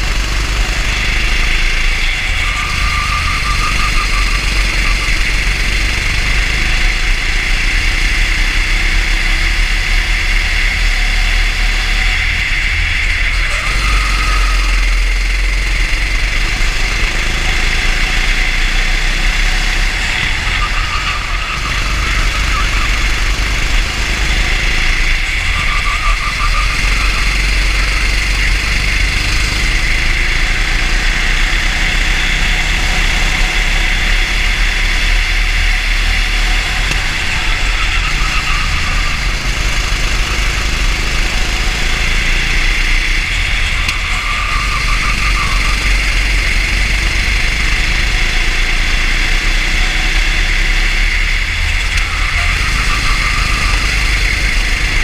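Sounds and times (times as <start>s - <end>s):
kart engine running at speed: 0.0s - 55.0s.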